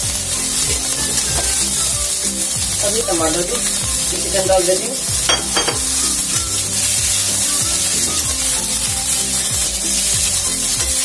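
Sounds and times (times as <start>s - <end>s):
background music: 0.0s - 11.0s
vegetables sizzling in oil: 0.0s - 11.0s
metal spatula scraping a pan: 0.2s - 11.0s.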